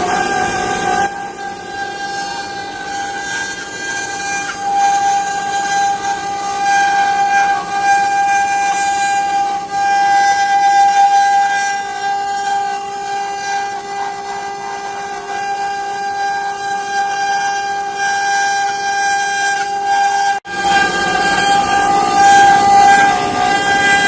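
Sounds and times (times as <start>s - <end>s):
router spindle whining: 0.0s - 24.0s.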